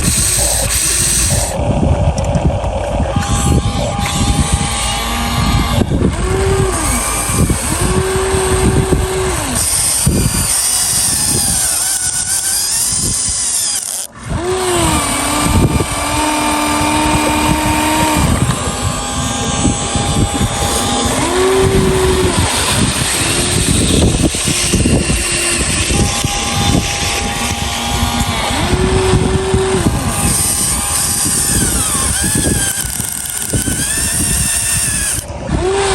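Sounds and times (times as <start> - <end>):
hydraulic pump motor whining: 0.0 - 35.9.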